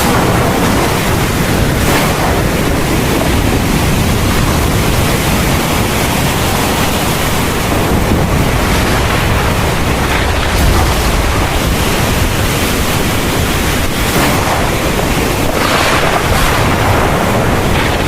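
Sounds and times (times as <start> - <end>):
heavy rain pouring: 0.0 - 18.0
low thunder rumble: 0.0 - 18.0.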